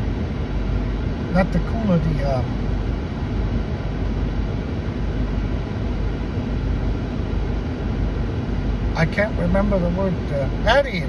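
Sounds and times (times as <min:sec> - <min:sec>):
car engine idling inside cabin: 0:00.0 - 0:11.0.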